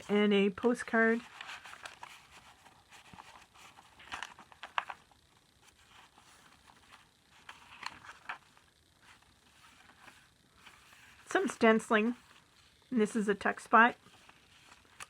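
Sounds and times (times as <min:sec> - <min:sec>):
paper pages rustling: 0:00.0 - 0:12.8, 0:13.6 - 0:15.0.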